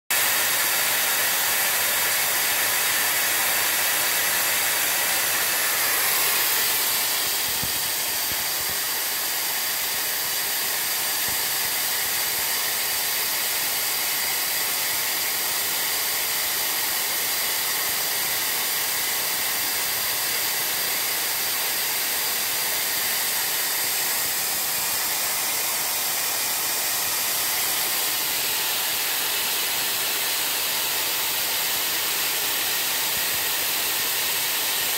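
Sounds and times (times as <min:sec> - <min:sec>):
laser welding hiss: 0:00.2 - 0:34.9.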